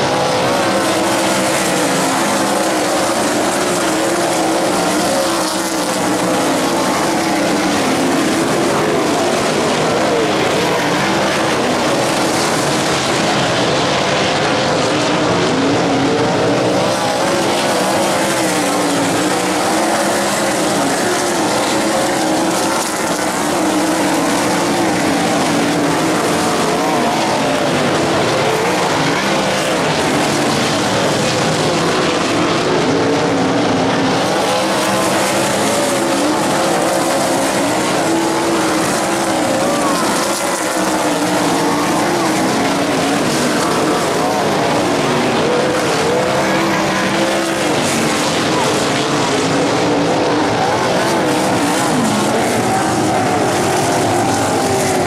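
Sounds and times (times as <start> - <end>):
race car engines: 0.0 - 55.0.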